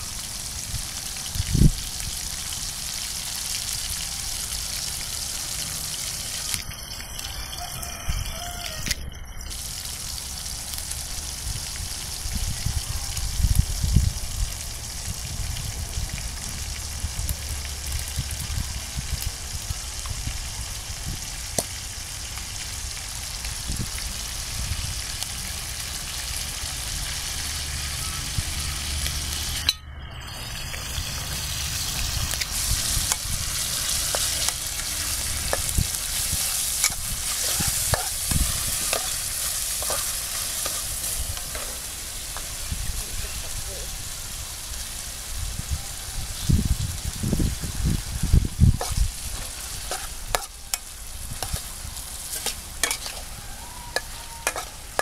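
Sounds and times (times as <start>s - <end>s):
meat sizzling in oil: 0.0s - 29.7s, 30.5s - 55.0s.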